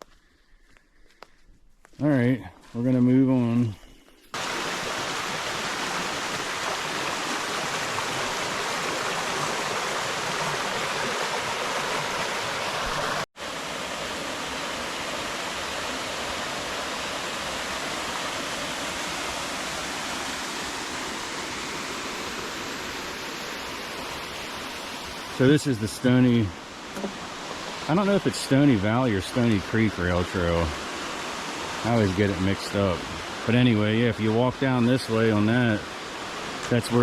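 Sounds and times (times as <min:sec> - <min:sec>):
flowing creek water: 0:04.3 - 0:37.0.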